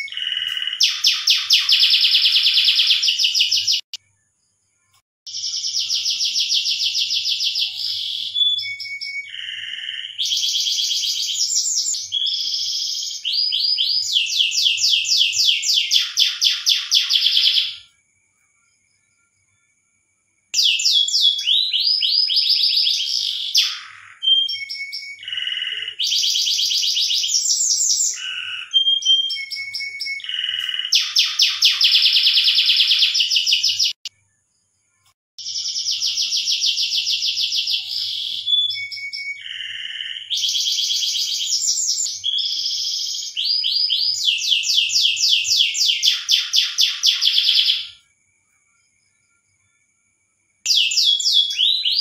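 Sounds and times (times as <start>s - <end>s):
canary singing trills: 0.0s - 4.4s, 5.3s - 17.9s, 20.6s - 34.1s, 35.4s - 48.0s, 50.7s - 52.0s.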